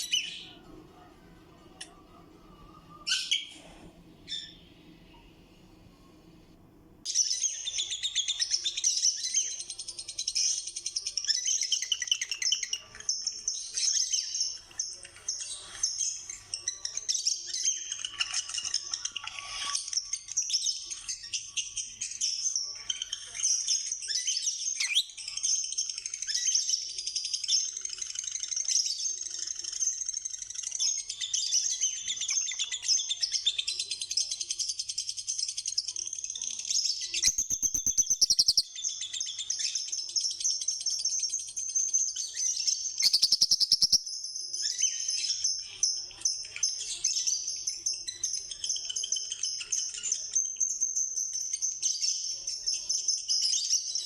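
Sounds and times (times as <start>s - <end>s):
parrots chirping and chattering: 0.0s - 5.0s, 7.1s - 54.0s.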